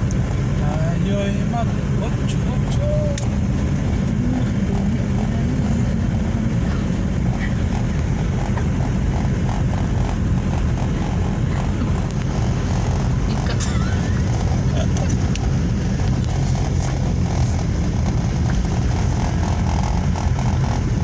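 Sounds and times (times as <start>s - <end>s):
car road and engine noise: 0.0s - 21.0s
faint regular ticking: 0.0s - 21.0s.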